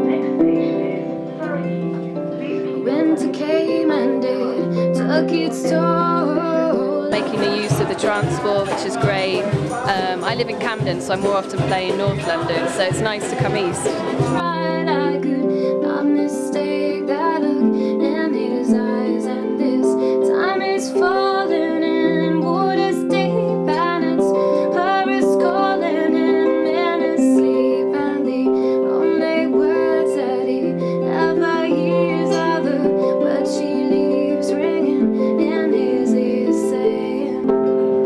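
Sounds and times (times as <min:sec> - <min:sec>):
plucked string instrument music: 0:00.0 - 0:38.0.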